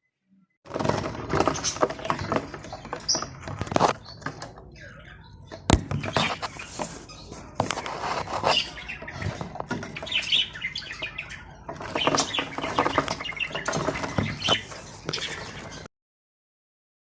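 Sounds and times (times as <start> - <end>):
budgerigars chattering and chirping: 0.8 - 15.9.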